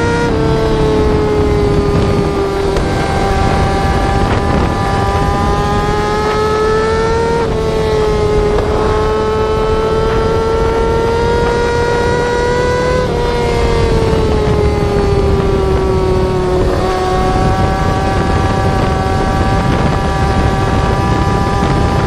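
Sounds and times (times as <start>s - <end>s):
motorcycle exhaust at high revs: 0.0s - 22.0s.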